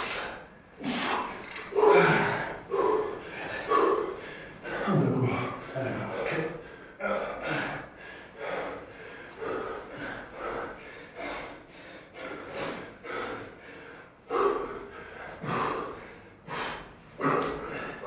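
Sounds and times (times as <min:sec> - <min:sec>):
gasps and snorting breaths: 0:00.0 - 0:18.0
men breathing heavily: 0:00.0 - 0:18.0.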